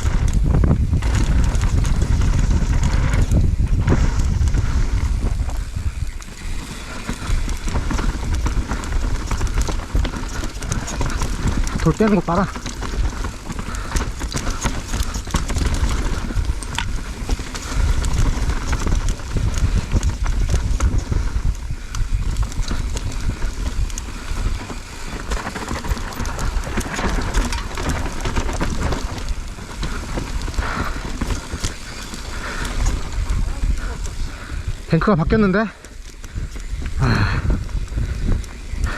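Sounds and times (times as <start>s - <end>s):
bike rattling and clicking: 0.0s - 38.9s
tyres crunching on rocky dirt: 0.0s - 38.9s
wind rumble on microphone: 0.0s - 38.9s.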